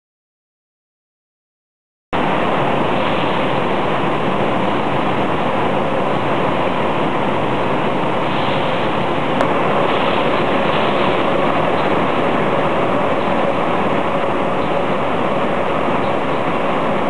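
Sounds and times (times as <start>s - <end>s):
machinery rushing noise: 2.2s - 17.0s.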